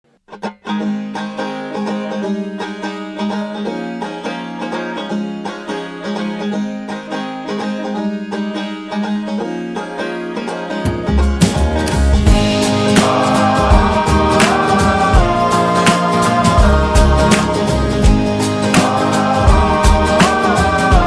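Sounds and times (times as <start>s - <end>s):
banjo-like plucked strings: 0.1s - 21.0s.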